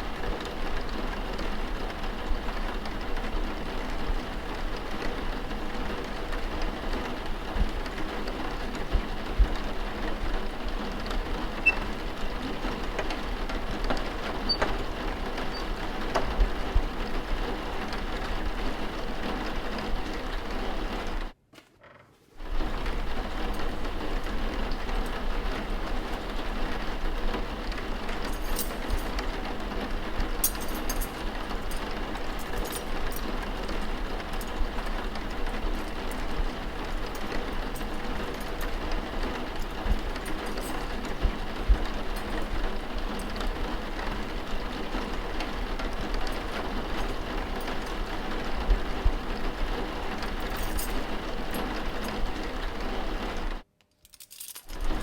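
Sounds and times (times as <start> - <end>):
steady rain: 0.0 - 21.4, 22.4 - 53.6.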